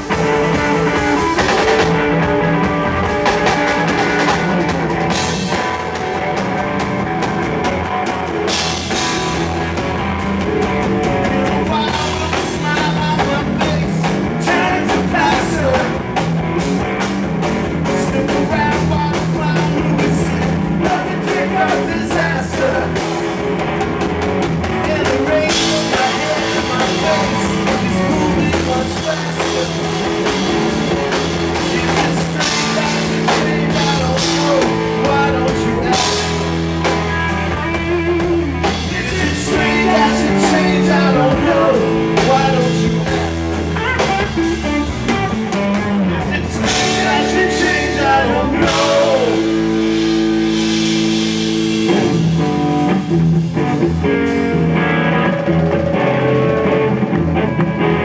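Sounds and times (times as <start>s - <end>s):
drum kit beat: 0.0s - 58.0s
electric bass: 0.0s - 58.0s
electric guitar: 0.0s - 58.0s.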